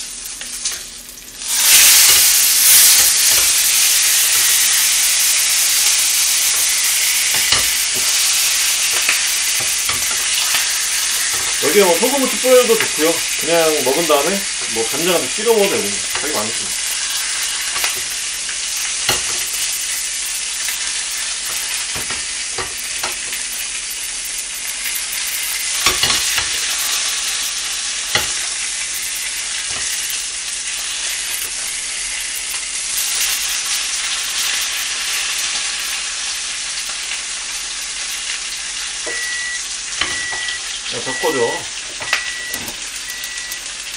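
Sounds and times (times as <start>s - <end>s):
fish sizzling in a frying pan: 0.0s - 43.9s.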